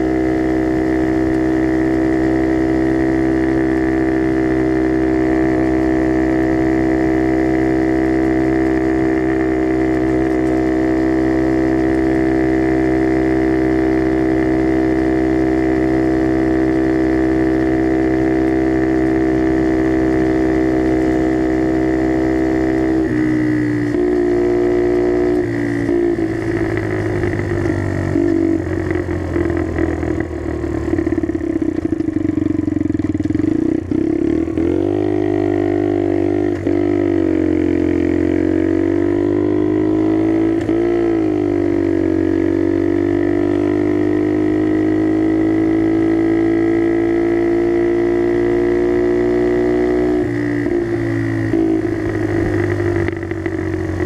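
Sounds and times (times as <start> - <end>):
mini-bike engine droning: 0.0 - 54.0.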